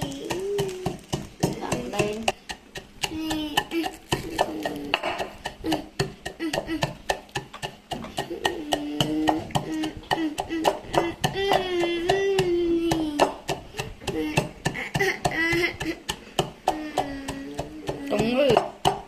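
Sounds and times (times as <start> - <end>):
knife chopping on a board: 0.2 - 19.0.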